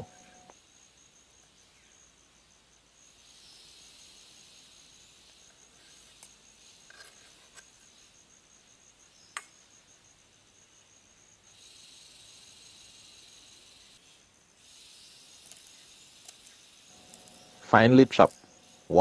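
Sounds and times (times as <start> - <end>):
insect trilling: 0.0 - 2.3, 3.0 - 19.0.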